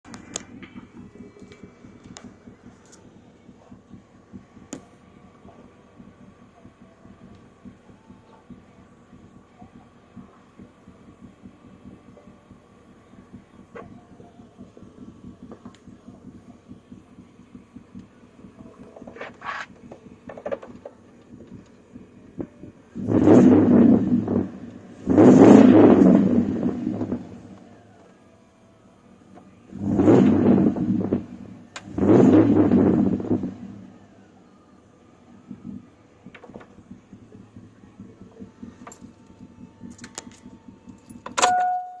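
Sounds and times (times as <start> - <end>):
engine idling: 0.0 - 42.0.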